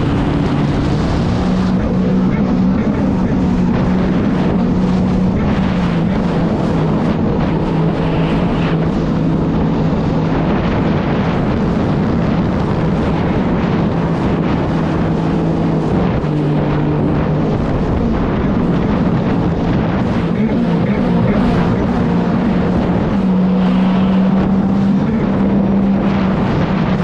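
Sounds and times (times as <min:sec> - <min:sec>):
jet ski engine running: 0:00.0 - 0:27.0
wind and water rushing: 0:00.0 - 0:27.0.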